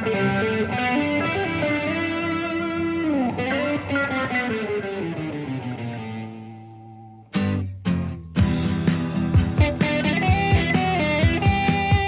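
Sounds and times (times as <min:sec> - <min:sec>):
guitar melody: 0:00.0 - 0:12.0.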